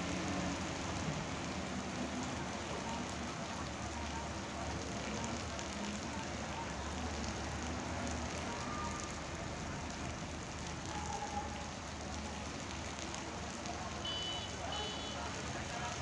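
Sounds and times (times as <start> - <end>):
heavy rain on rooftops: 0.0 - 16.0.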